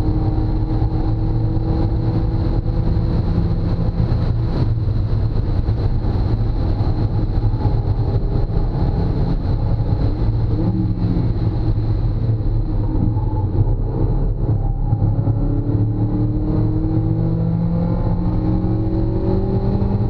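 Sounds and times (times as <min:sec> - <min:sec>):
car engine from inside cabin: 0:00.0 - 0:20.0
road noise: 0:00.0 - 0:20.0.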